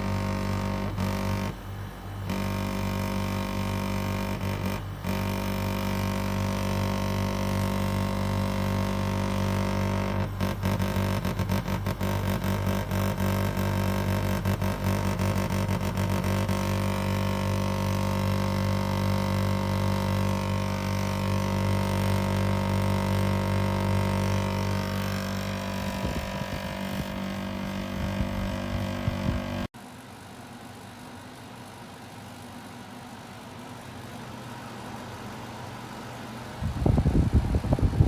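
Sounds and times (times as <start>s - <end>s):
air conditioner humming: 0.0s - 38.0s.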